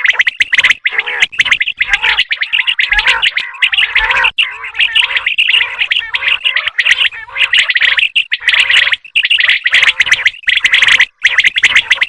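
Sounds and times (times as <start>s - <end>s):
quail calling: 0.0s - 12.0s.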